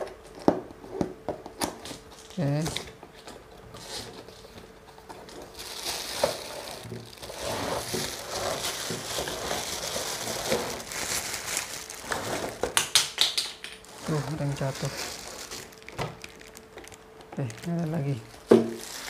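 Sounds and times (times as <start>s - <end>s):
cardboard and plastic rustling: 0.0s - 12.8s, 13.8s - 19.0s.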